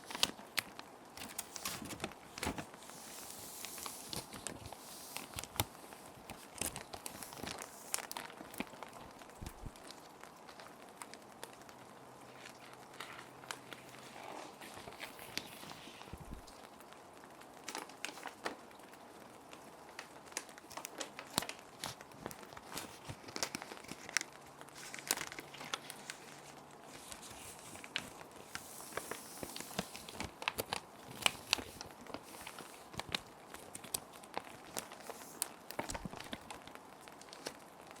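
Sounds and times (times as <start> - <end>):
plastic sheet protectors crinkling: 0.0 - 38.0.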